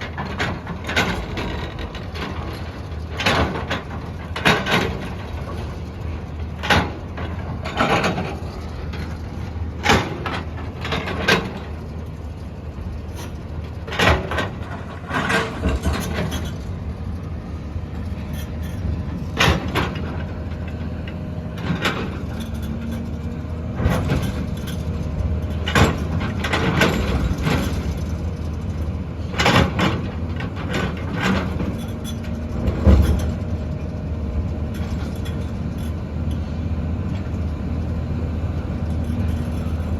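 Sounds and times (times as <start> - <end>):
metal clanks and knocks: 0.0 - 12.1, 13.0 - 28.6, 29.3 - 36.5, 38.8 - 39.9
diesel engine running: 0.0 - 39.9.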